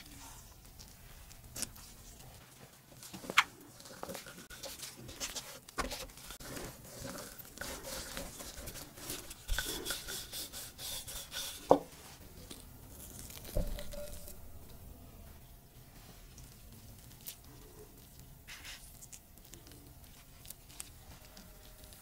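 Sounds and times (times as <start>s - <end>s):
gloves rubbing and crinkling: 0.0s - 22.0s.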